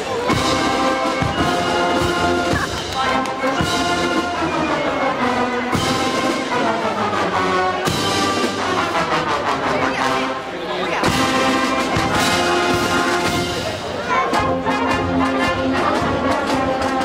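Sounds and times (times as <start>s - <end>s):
drum beats: 0.0s - 10.2s, 10.9s - 17.0s
marching band playing: 0.0s - 17.0s
brass playing held chords: 0.3s - 17.0s.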